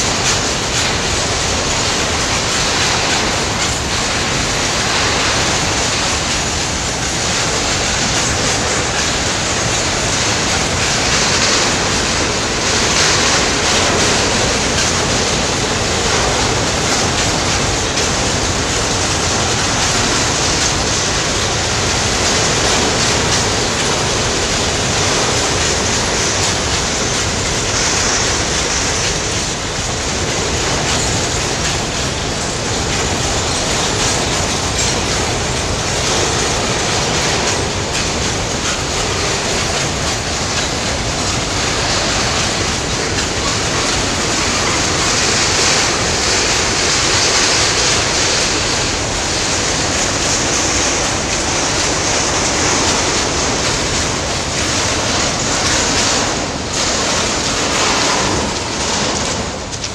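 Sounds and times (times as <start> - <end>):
freight train wagons rolling past: 0.0 - 59.9.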